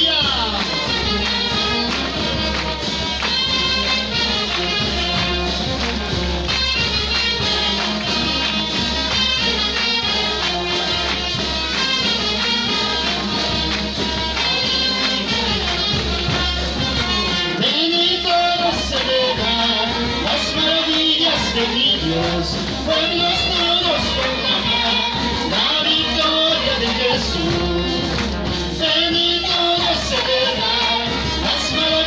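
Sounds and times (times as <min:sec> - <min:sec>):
band playing upbeat song: 0:00.0 - 0:32.0.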